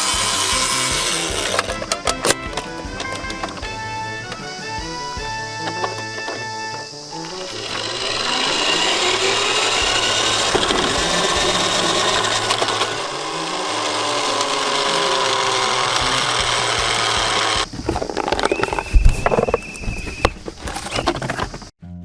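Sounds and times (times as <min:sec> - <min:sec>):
toy motor and gears whirring: 0:00.0 - 0:21.7.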